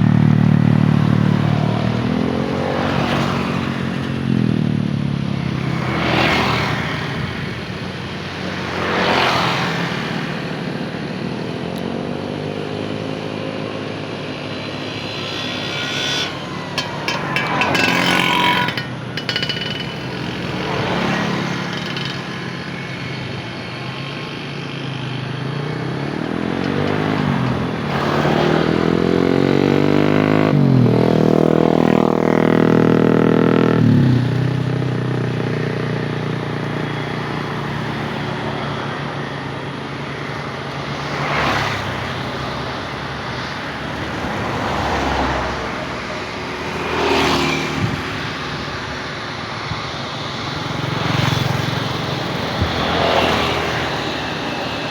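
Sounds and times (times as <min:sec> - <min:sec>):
engine drone: 0:00.0 - 0:54.9
vehicles passing by: 0:00.0 - 0:54.9.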